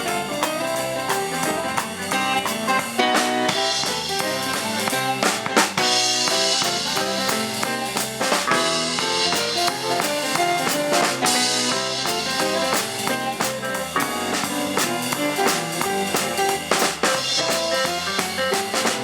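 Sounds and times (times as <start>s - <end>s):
drum beat: 0.0s - 19.0s
live band playing fast: 0.0s - 19.0s
quick runs of pitched notes: 0.0s - 19.0s.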